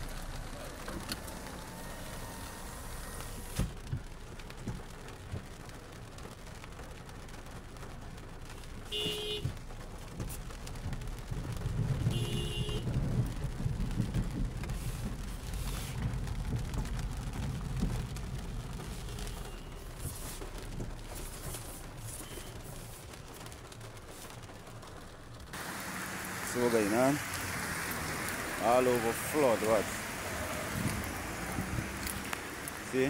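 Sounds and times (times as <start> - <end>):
car engine and tyre rumble: 0.0 - 33.0
rain on windshield: 0.0 - 33.0.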